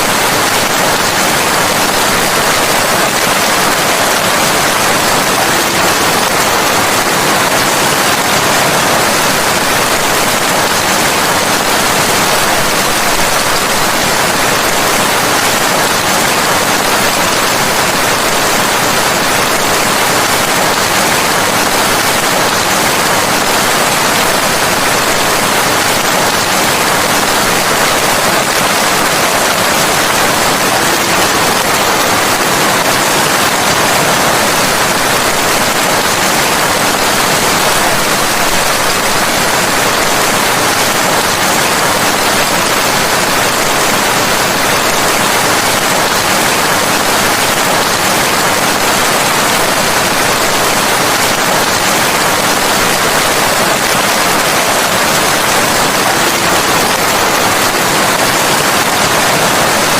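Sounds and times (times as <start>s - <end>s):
dense rain falling: 0.0s - 59.9s.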